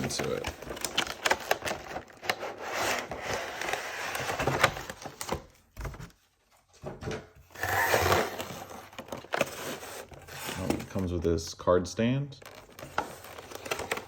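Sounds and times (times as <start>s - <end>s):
cardboard box being unpacked: 0.0s - 6.3s, 7.5s - 11.1s, 12.4s - 14.0s.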